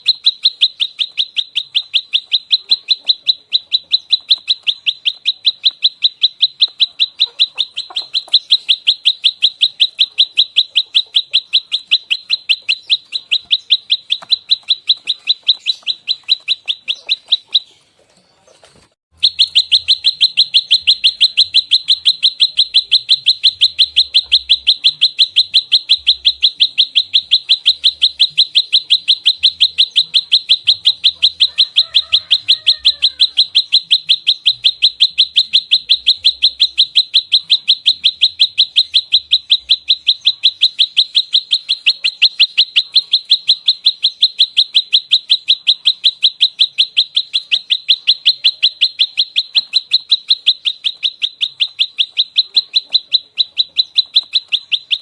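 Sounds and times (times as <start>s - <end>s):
bird calling in sharp high notes: 0.0s - 17.8s, 19.1s - 55.0s.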